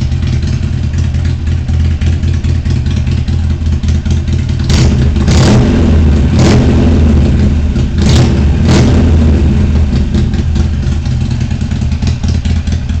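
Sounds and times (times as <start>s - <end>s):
motorcycle engine revving and idling: 0.0s - 13.0s.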